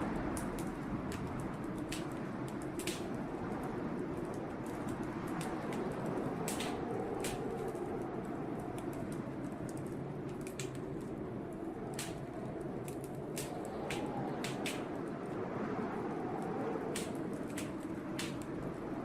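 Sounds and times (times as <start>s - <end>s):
sharp pops and snaps: 0.0s - 15.2s, 16.3s - 18.9s
blizzard wind rushing: 0.0s - 19.0s
wood fire crackling: 0.0s - 19.0s.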